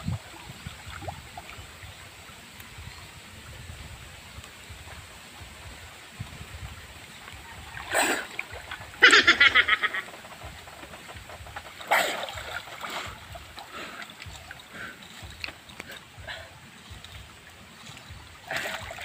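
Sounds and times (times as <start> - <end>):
river current rushing: 0.0 - 19.0
water splashing: 0.0 - 19.0.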